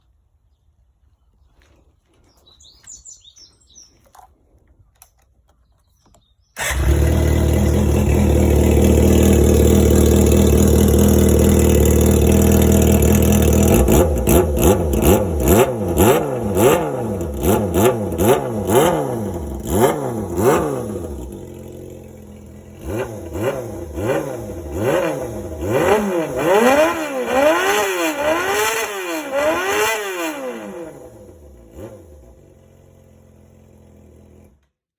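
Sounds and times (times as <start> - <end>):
motorcycle engine revving: 6.6 - 34.7.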